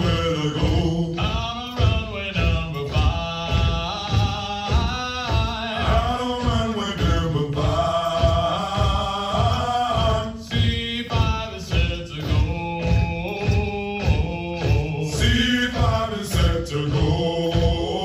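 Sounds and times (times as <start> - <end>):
steady beat: 0.0 - 18.0.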